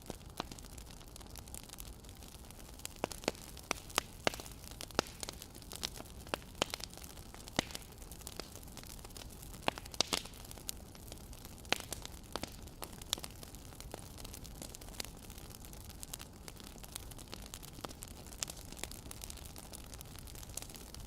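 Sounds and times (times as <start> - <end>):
faint steady hiss: 0.0 - 21.0
wood fire crackling: 0.0 - 21.0.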